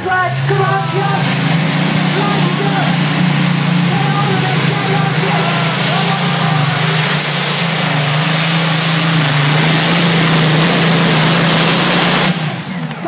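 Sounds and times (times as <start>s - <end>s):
tractor engine running flat out: 0.0s - 13.0s.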